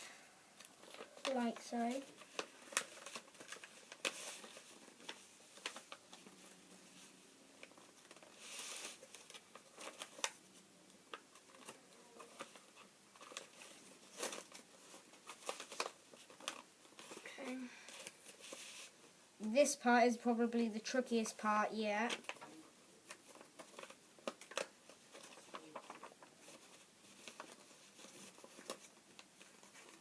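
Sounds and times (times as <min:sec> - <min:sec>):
paper crackling: 0:00.0 - 0:19.0, 0:19.6 - 0:30.0
paper being folded and creased: 0:00.6 - 0:19.0, 0:20.8 - 0:30.0
paper rustling: 0:00.6 - 0:30.0.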